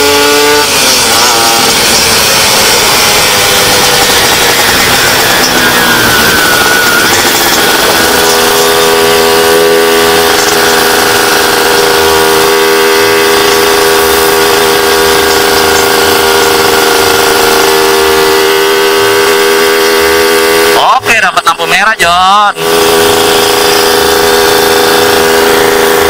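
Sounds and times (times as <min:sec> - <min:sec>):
two-stroke motorcycle engine running: 0:00.0 - 0:21.6, 0:22.5 - 0:26.0.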